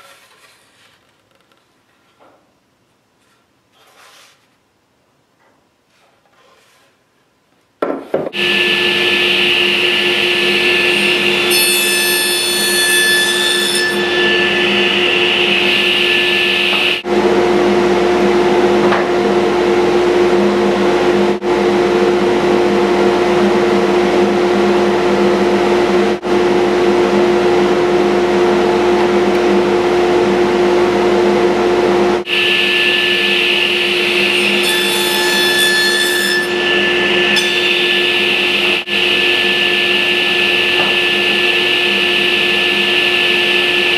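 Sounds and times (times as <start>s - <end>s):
table saw whining: 8.4s - 43.9s.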